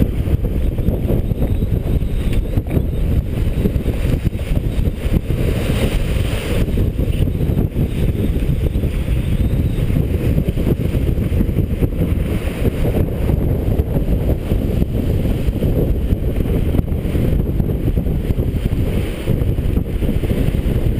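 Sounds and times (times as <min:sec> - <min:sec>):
wind buffeting the microphone: 0:00.0 - 0:20.9.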